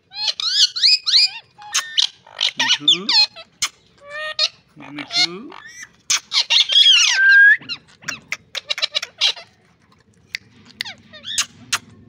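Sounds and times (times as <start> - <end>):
parakeets squawking: 0.1 - 9.6, 10.4 - 12.0.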